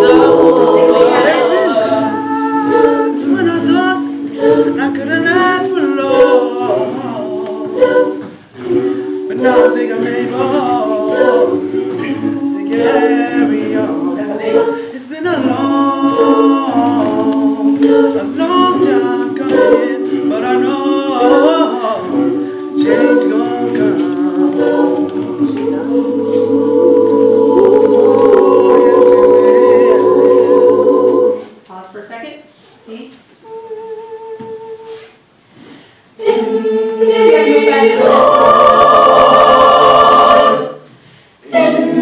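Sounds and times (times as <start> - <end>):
choir singing a cappella: 0.0 - 31.6, 33.4 - 35.2, 36.1 - 42.0.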